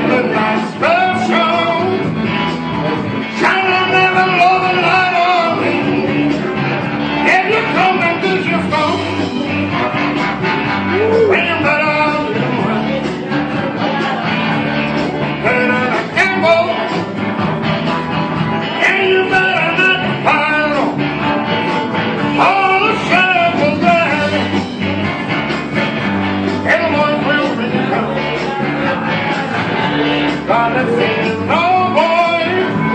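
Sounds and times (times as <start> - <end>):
bending lead melody: 0.0 - 32.9
live blues rock instrumental: 0.0 - 32.9.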